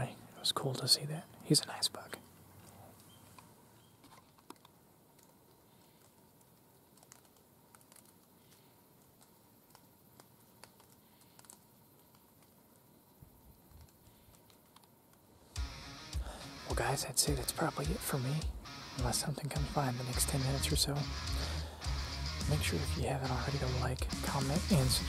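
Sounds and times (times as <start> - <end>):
faint outdoor hiss: 0.0 - 25.0.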